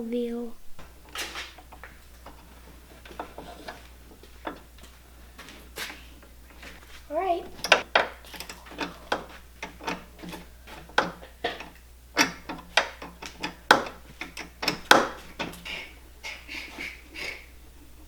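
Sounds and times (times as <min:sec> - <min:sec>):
metal parts and hand tools clicking: 0:00.8 - 0:16.0.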